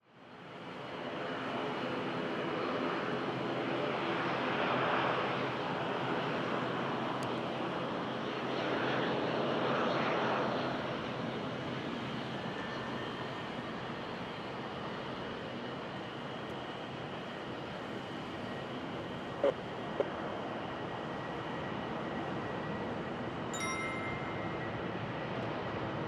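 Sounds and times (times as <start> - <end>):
jet airliner engines passing: 0.2 - 26.0.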